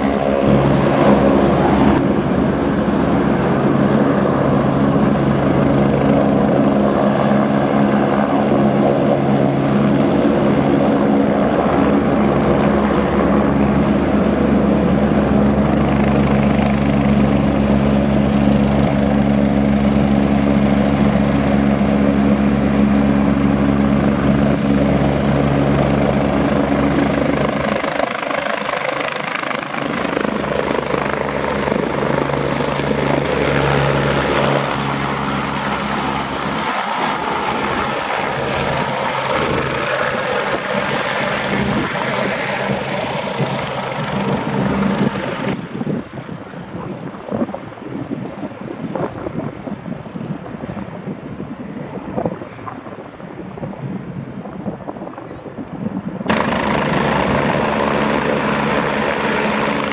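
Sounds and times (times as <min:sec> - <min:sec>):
helicopter rotor and turbine roar: 0:00.0 - 0:59.9.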